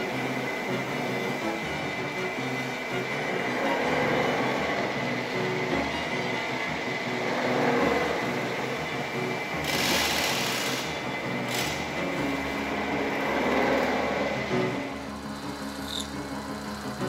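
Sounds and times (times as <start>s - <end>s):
lathe machine hum: 0.0s - 17.0s
tool hissing on spinning copper: 0.0s - 17.0s.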